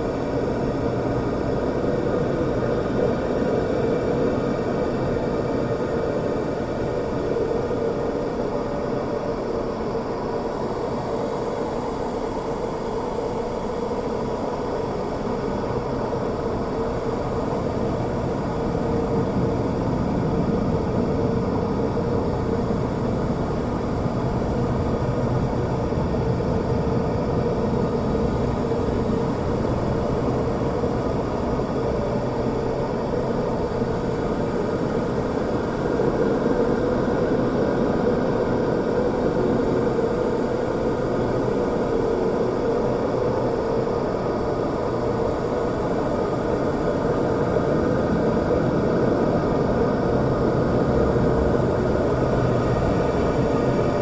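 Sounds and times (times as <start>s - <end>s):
steady whirring hum: 0.0s - 54.0s.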